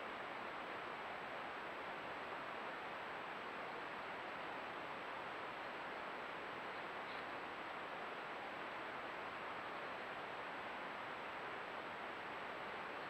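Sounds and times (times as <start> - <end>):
faint high-pitched whine: 0.0 - 13.0
steady microphone hiss: 0.0 - 13.0.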